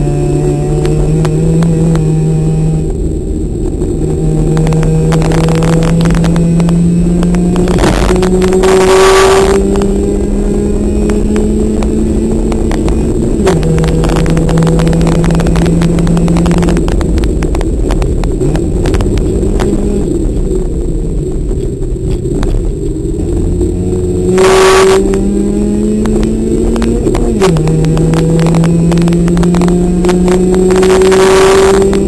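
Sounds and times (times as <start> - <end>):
car engine revving: 0.0 - 32.0
rushing noise: 0.0 - 32.0.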